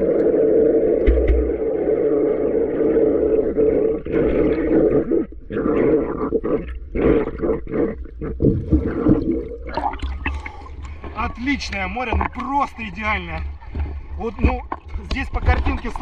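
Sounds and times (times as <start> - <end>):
muffled rushing of water: 0.0 - 16.0
choppy water splashes: 0.9 - 16.0.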